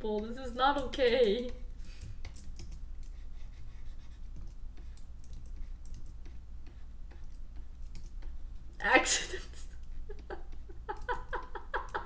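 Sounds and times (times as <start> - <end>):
low electrical hum: 0.0 - 12.0
computer keys clicking: 0.1 - 3.2, 4.2 - 8.8, 9.8 - 12.0.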